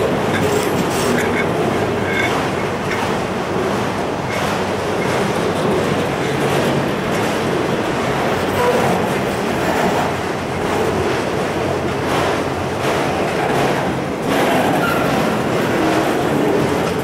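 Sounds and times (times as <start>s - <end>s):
freight cars rumbling on rails: 0.0s - 17.0s
wheel clacks: 0.0s - 17.0s.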